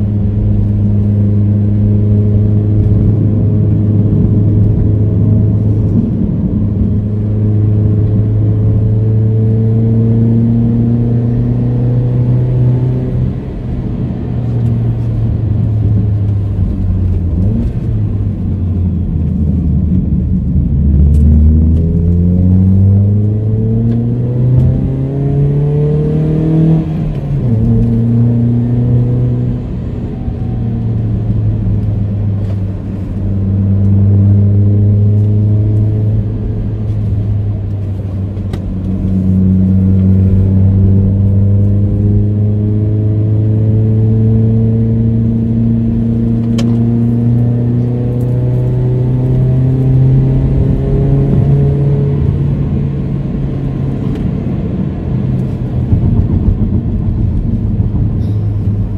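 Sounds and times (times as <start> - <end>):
car engine pulling uphill: 0.0 - 58.9.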